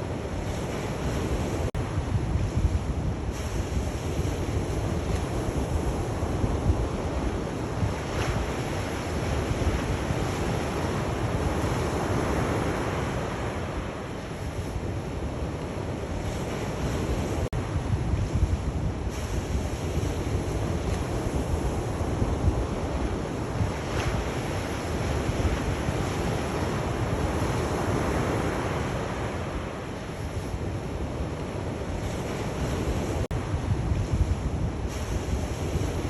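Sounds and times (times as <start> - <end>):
sea surf washing onto shore: 0.0 - 36.0
wind rumbling on microphone: 0.0 - 36.0.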